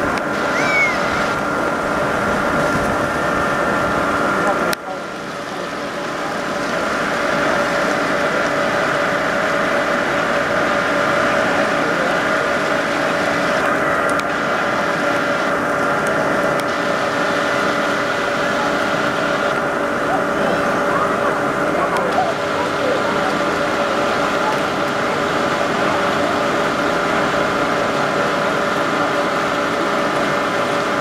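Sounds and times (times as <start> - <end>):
steady hum: 0.0 - 31.0
water rushing down a slide: 0.2 - 31.0.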